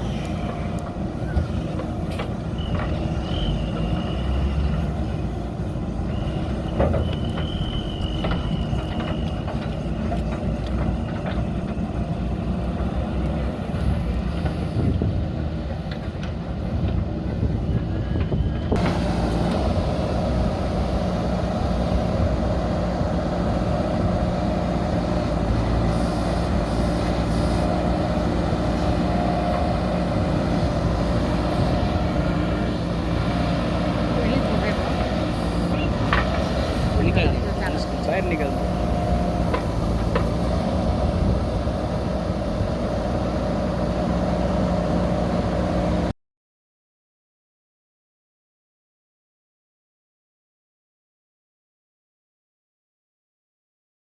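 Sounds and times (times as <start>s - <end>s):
heavy diesel engine running: 0.0s - 46.1s.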